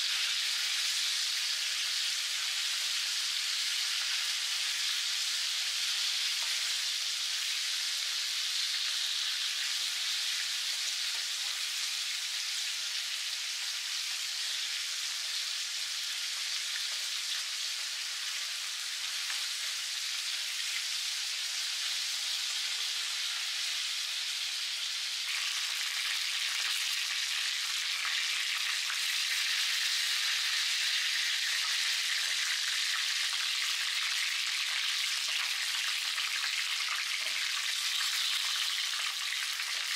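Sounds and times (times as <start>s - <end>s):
chicken frying in oil: 0.0s - 39.9s.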